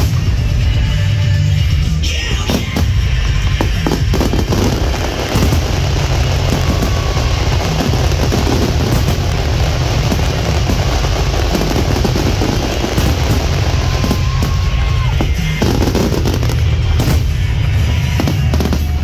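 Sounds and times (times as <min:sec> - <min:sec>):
fireworks crackling and booming: 0:00.0 - 0:19.0.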